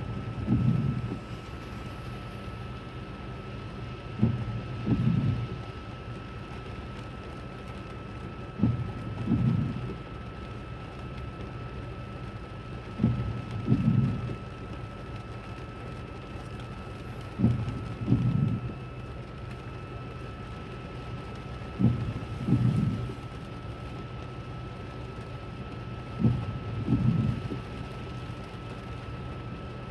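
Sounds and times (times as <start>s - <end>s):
rain on a car: 0.0s - 29.9s.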